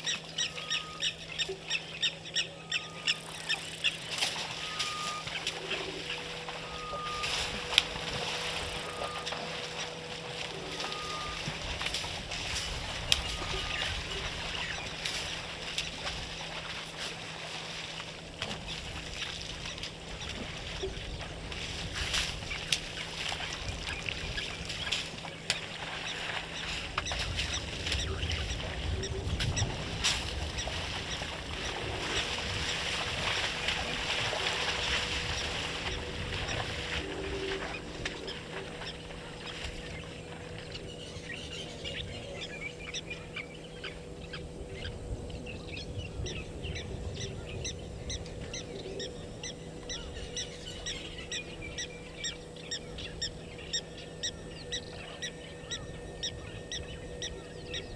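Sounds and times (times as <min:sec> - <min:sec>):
faint electrical hum: 0:00.0 - 0:57.9
steady outdoor hiss: 0:00.0 - 0:57.9
wild birds calling: 0:00.0 - 0:57.9.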